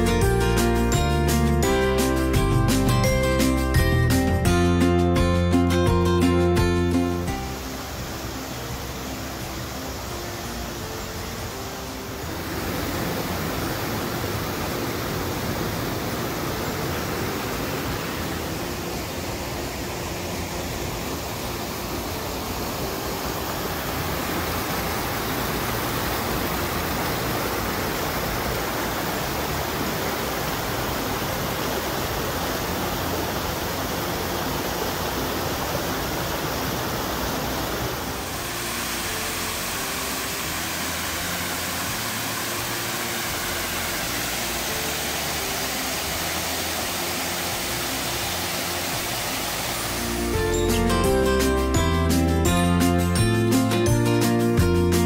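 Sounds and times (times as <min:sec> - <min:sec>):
creek water rushing over rocks: 0:05.0 - 0:53.7
waterfall cascading over rock: 0:05.0 - 0:53.8.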